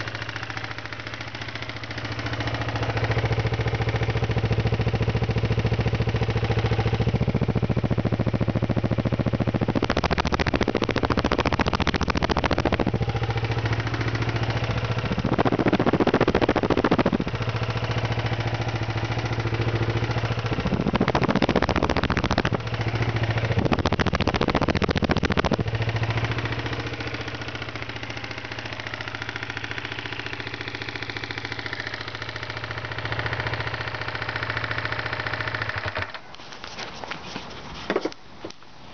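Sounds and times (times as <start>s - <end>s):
motorcycle engine revving and idling: 0.0s - 36.4s.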